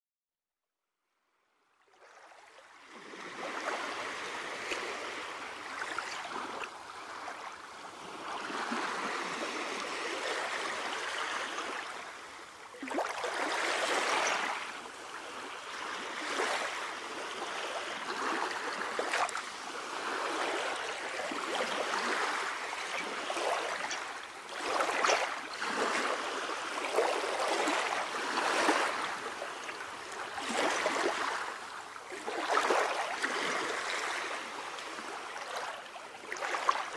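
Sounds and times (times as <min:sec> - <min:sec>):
water sloshing and splashing: 0:01.9 - 0:36.9.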